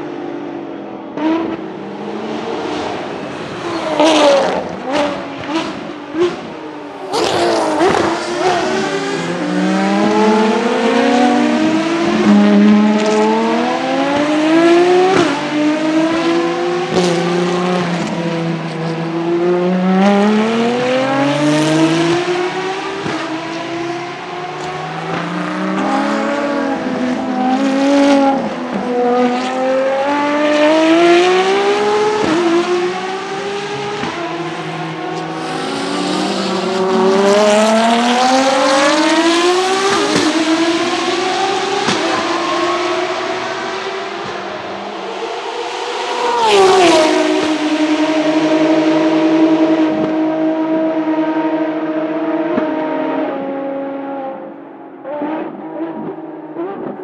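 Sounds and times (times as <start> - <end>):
race car engines accelerating: 0.0 - 57.0.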